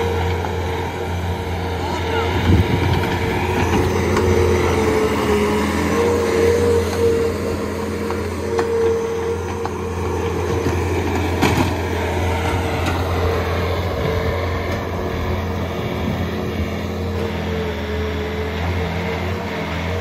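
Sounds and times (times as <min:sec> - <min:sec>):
loader engine running: 0:00.0 - 0:20.0.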